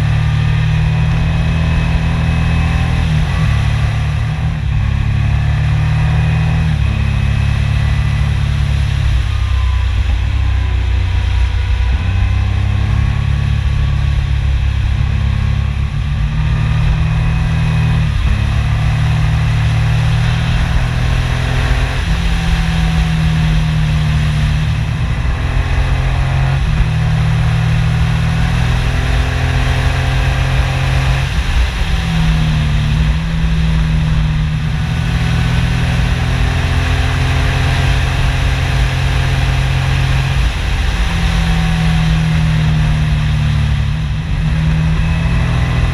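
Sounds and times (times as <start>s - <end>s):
motorcycle engine revving: 0.0s - 45.9s
wind noise: 8.2s - 45.9s.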